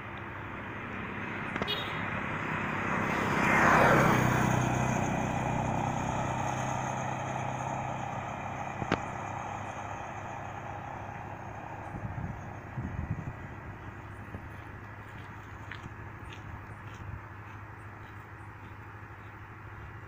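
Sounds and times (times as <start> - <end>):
vehicle passing close by: 0.0 - 19.3.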